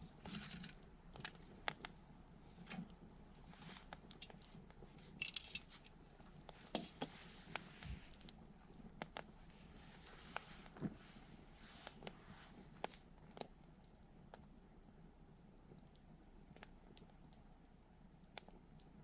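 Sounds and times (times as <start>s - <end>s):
campfire crackling: 0.0s - 19.0s
faint fire hiss: 0.0s - 19.0s.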